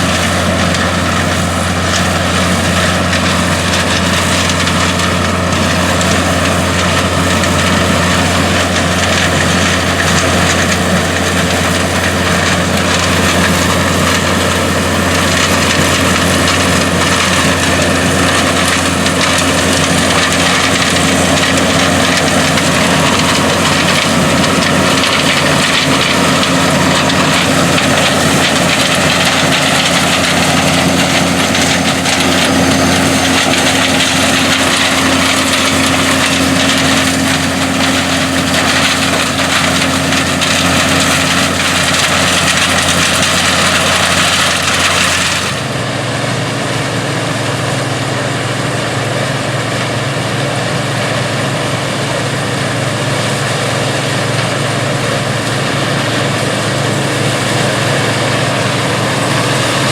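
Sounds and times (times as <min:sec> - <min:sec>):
combine harvester engine: 0:00.0 - 0:59.9
threshing machinery clatter: 0:00.0 - 0:59.9.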